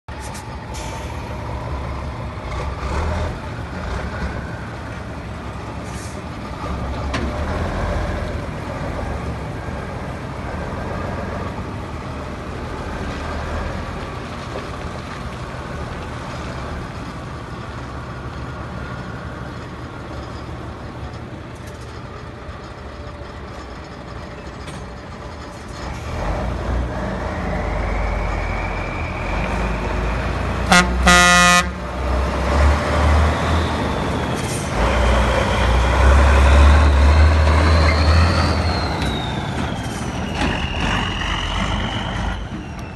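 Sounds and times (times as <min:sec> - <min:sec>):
diesel truck engine rumbling: 0:00.1 - 0:42.9.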